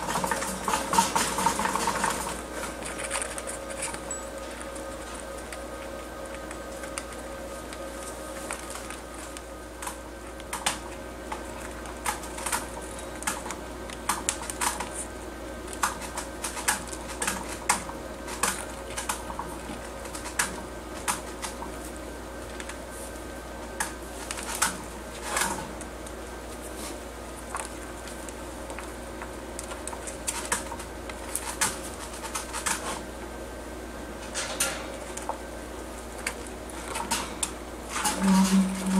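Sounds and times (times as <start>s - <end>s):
animals chewing with sharp clicks: 0.0s - 33.4s, 34.2s - 37.6s.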